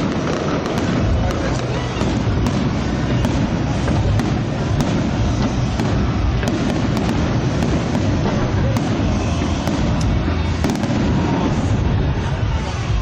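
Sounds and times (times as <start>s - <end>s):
firework sharp cracks: 0.0s - 12.3s
firework shells booming: 0.0s - 12.3s.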